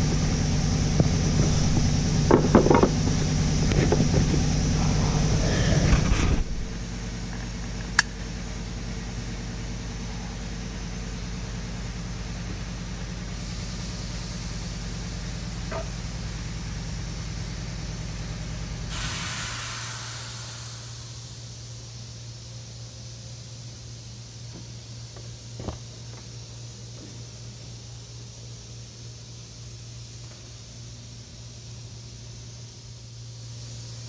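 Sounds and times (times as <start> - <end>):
steady low hum: 0.0 - 34.0
hiss: 1.0 - 34.0.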